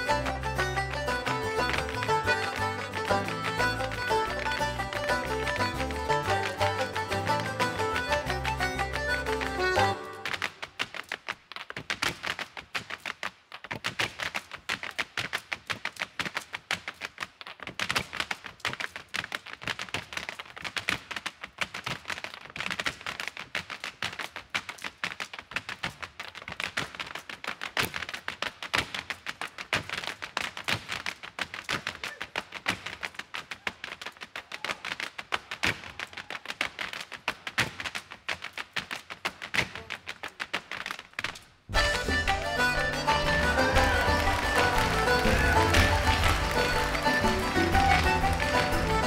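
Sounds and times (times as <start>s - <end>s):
hard shoes tapping stage floor: 0.0s - 49.0s.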